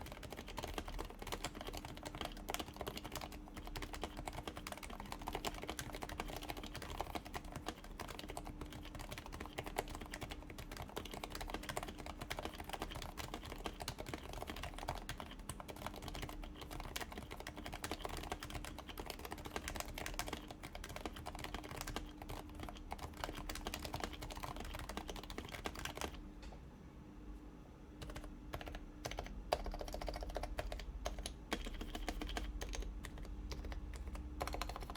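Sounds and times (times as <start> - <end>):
fast keyboard typing: 0.0 - 26.2, 28.0 - 34.9.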